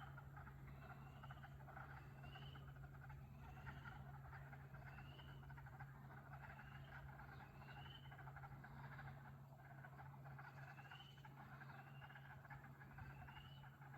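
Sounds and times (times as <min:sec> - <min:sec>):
frogs calling: 0:00.0 - 0:13.9.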